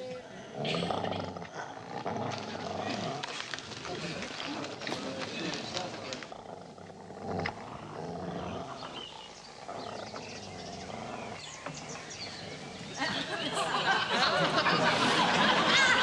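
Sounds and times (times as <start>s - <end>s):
dogs growling and snarling: 0.0s - 16.0s.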